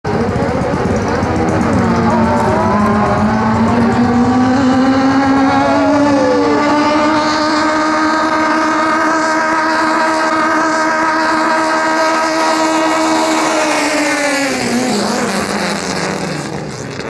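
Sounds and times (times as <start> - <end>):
speedboat engine at high revs: 0.0 - 17.0
second engine tone: 0.1 - 16.3.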